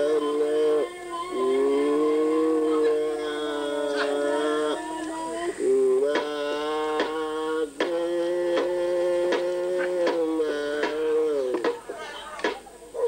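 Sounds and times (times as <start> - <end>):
person chanting long notes: 0.0 - 12.2.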